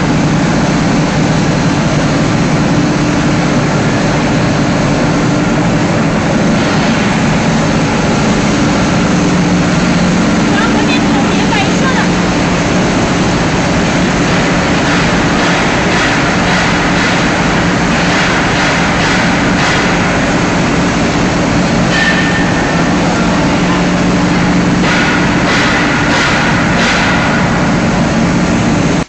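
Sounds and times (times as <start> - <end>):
low machine hum: 0.0 - 29.0
plastic crusher running: 0.0 - 29.0
machine clattering: 0.1 - 29.0.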